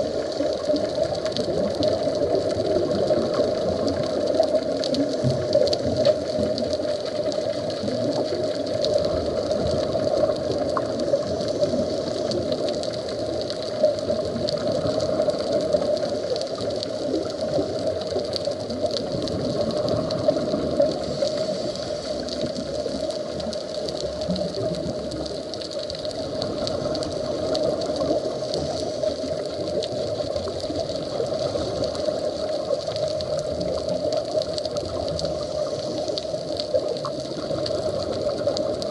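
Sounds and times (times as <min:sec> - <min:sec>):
faint underwater clicks and crackles: 0:00.0 - 0:38.9
muffled underwater rush: 0:00.0 - 0:38.9.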